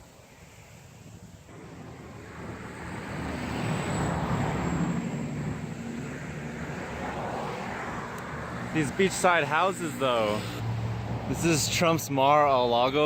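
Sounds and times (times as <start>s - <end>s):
passing vehicle engine: 1.5s - 13.0s.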